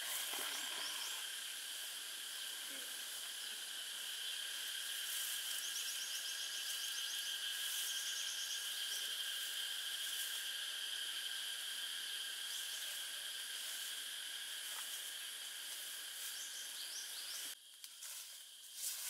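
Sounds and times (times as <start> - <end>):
insects chorus drone: 0.0 - 19.0.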